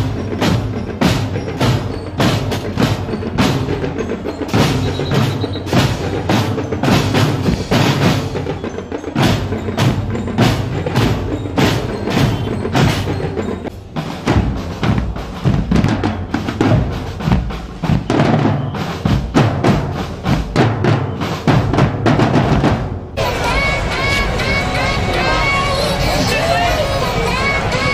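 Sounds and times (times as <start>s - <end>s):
marching drum line: 0.0s - 27.9s.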